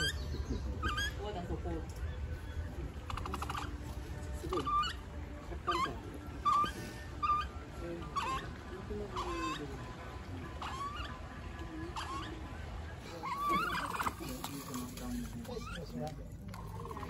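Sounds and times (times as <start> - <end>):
capybara chirping peeps: 0.0 - 14.6, 15.2 - 17.0.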